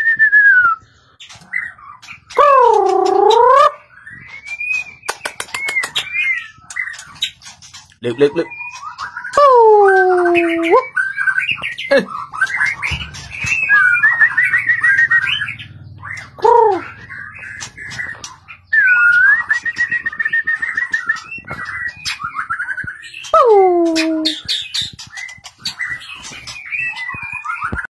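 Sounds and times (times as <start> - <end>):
bird singing trills: 1.1 - 27.9.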